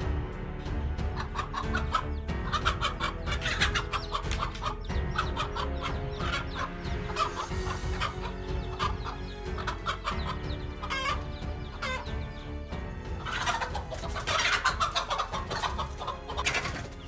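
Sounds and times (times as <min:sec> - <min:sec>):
background music: 0:00.0 - 0:17.0
chicken clucking: 0:01.1 - 0:17.0.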